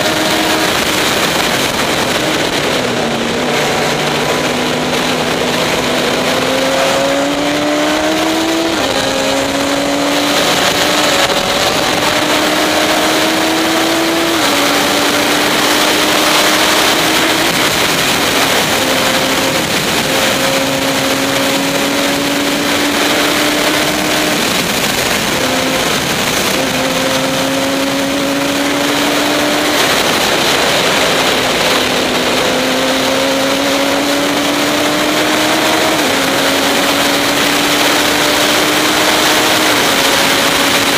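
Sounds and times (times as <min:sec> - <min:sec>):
race car engine accelerating: 0:00.0 - 0:40.9
wind and road noise: 0:00.0 - 0:40.9.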